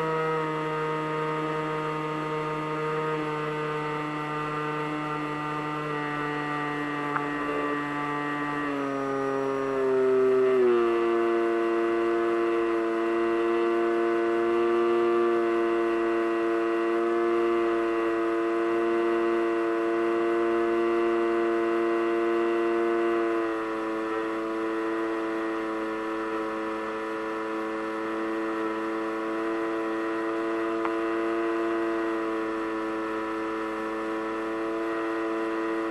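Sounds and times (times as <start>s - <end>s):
model plane motor droning: 0.0s - 35.9s.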